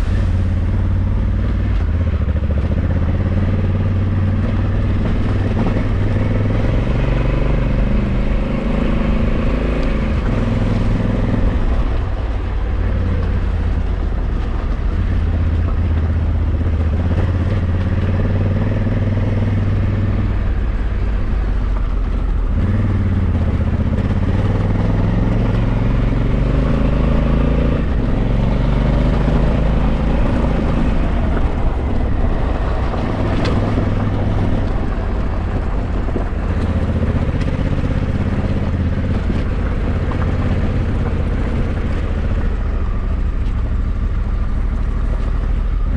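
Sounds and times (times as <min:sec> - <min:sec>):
motorcycle engine pulling uphill: 0:00.0 - 0:45.9.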